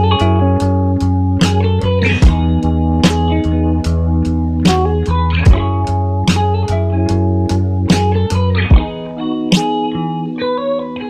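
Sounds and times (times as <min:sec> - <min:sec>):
steady drum beat: 0:00.0 - 0:09.8
sustained bass notes: 0:00.0 - 0:10.3
guitar: 0:00.0 - 0:11.0.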